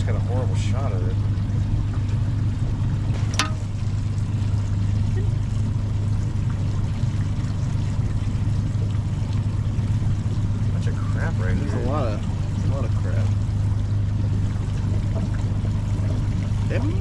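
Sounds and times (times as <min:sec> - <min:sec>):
boat motor running: 0:00.0 - 0:17.0
water around the hull: 0:00.0 - 0:17.0.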